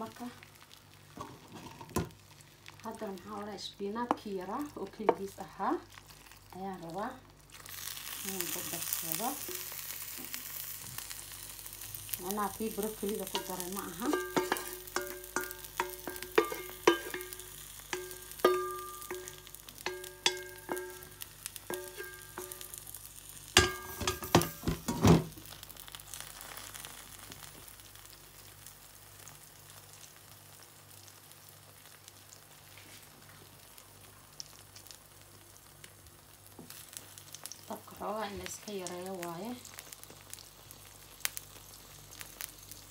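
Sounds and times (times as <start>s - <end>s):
eggs sizzling in a pan: 0.0s - 42.9s.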